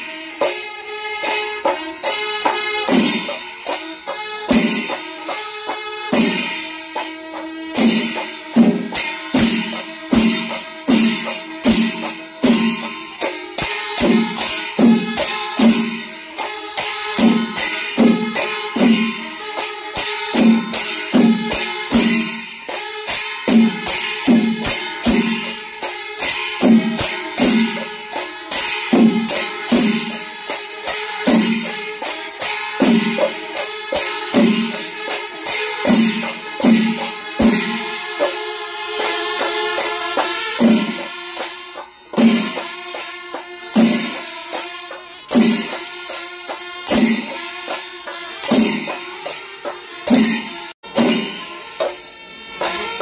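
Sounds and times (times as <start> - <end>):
hand cymbal clashes: 0.0 - 53.0.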